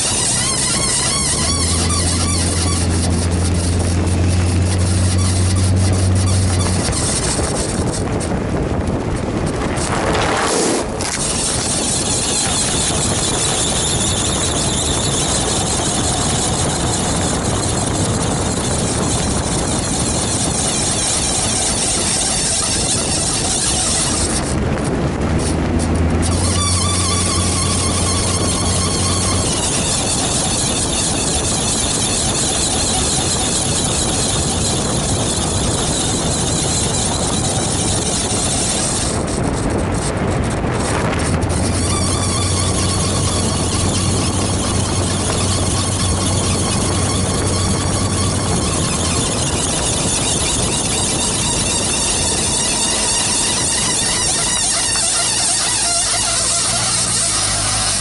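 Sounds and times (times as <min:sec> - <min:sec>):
high wheel noise: 0:00.0 - 0:58.0
road and wind noise: 0:00.0 - 0:58.0.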